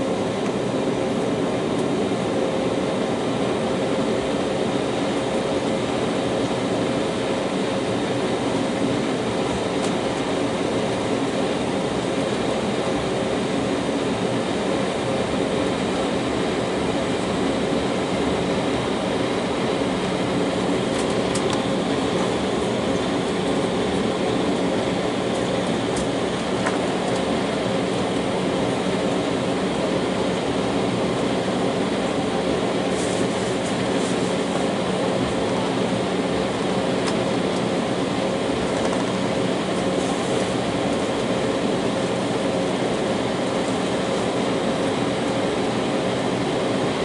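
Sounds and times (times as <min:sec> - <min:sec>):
jet engines at low thrust: 0:00.0 - 0:47.0
wheels rumbling on taxiway: 0:00.0 - 0:47.0.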